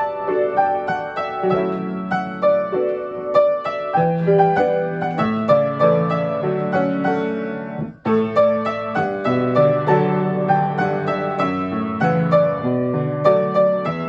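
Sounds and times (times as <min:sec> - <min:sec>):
solo piano playing pop song: 0:00.0 - 0:14.0.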